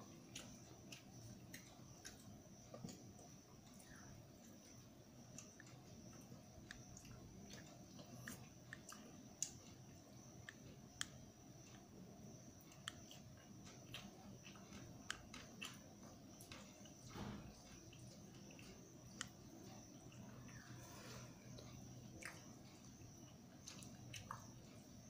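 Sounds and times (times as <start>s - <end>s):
chewing: 0.0s - 25.0s.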